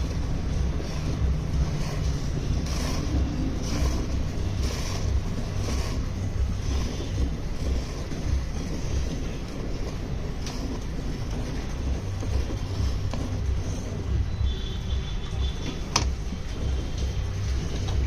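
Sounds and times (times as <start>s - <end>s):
milk jets hissing into a pail: 0.0s - 18.0s.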